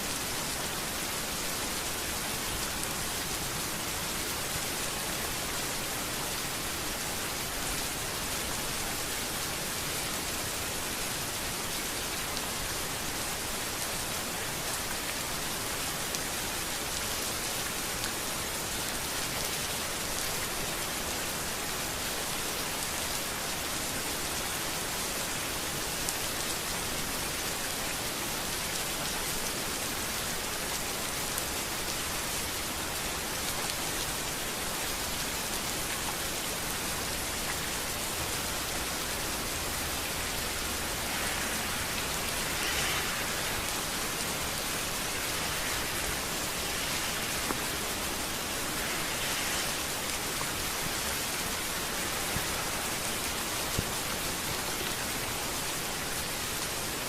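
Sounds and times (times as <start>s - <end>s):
rain falling on a street: 0.0s - 57.0s.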